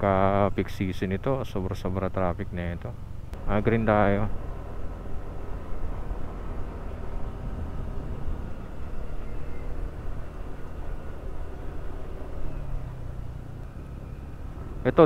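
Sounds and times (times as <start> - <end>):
road rumble: 0.0 - 15.0
wind: 0.0 - 15.0
scooter engine running: 2.9 - 15.0.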